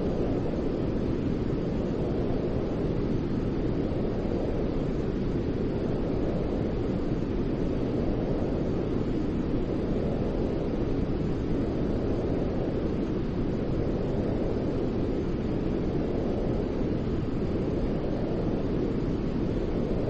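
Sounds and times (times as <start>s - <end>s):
white noise hiss: 0.0s - 20.0s.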